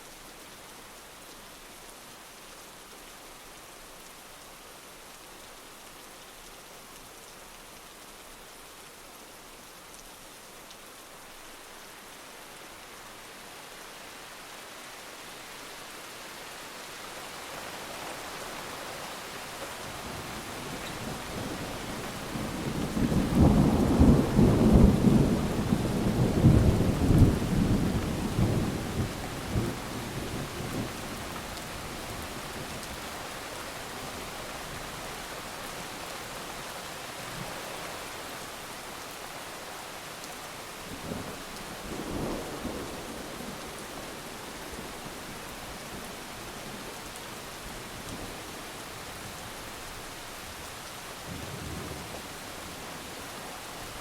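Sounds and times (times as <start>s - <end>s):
heavy rain hiss: 6.6s - 54.0s.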